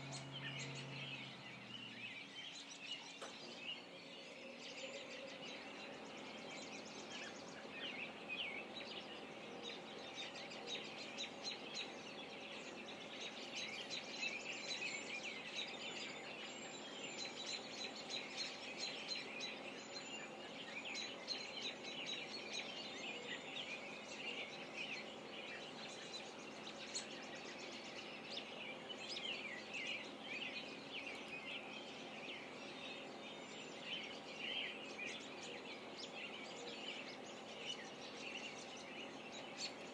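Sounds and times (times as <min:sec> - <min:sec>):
birds chirping and singing: 0:00.0 - 0:39.9
faint steady hum: 0:00.0 - 0:39.9.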